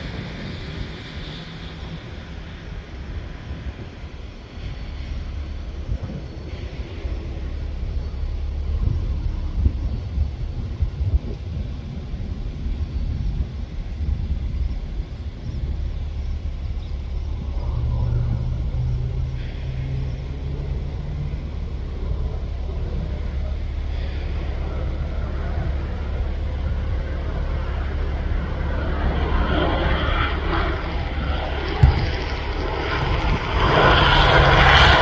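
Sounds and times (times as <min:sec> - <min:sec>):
airplane engine and propeller droning: 0:00.0 - 0:35.0
heavy low rumble: 0:00.0 - 0:35.0
steady engine hum: 0:00.0 - 0:35.0.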